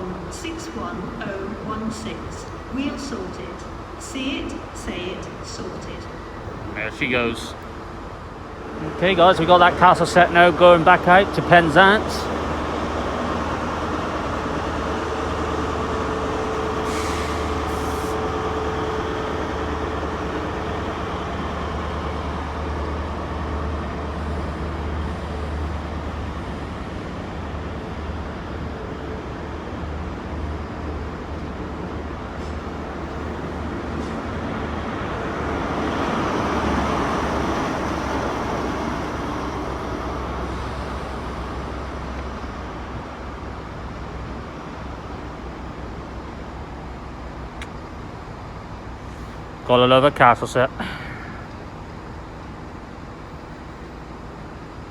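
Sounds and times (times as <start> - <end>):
diesel train engine drone: 0.0 - 54.9.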